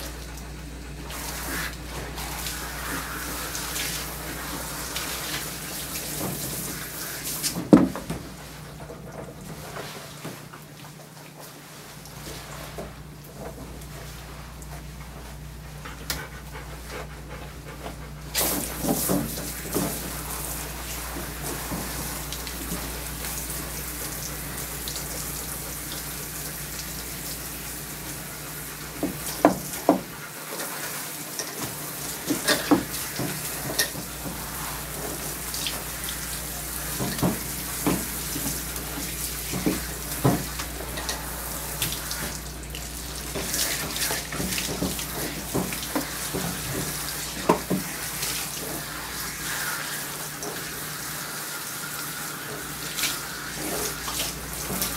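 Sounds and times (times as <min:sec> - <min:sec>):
hose water spraying: 0:00.0 - 0:07.9, 0:17.9 - 0:54.9.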